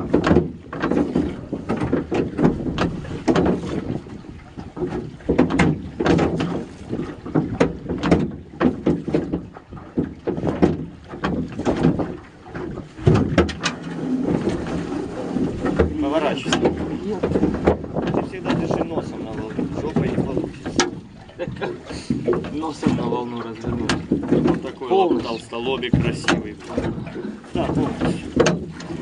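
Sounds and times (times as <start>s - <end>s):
net knocking against metal hull: 0.0s - 29.0s
water sloshing and splashing: 0.0s - 29.0s.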